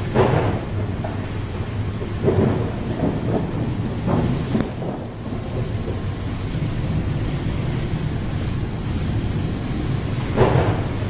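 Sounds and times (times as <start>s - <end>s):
heavy seas breaking against bow: 0.0s - 11.0s
spray washing across deck: 0.0s - 11.0s
wind buffeting microphone: 0.0s - 11.0s.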